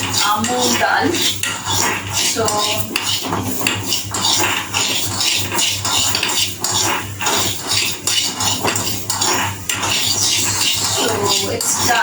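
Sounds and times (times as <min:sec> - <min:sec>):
spoon scraping lentils in pan: 0:00.0 - 0:12.0.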